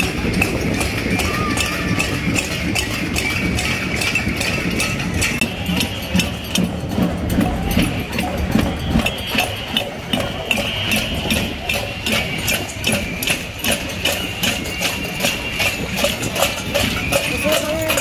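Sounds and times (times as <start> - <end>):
crowd moving: 0.0 - 18.0.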